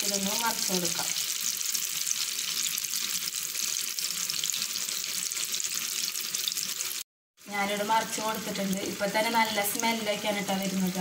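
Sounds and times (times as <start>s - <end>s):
batter frying in hot oil: 0.0s - 11.0s.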